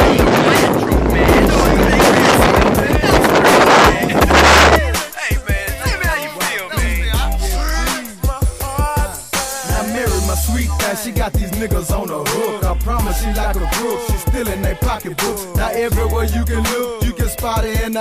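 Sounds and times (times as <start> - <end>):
hip hop music with vocals: 0.0 - 18.0.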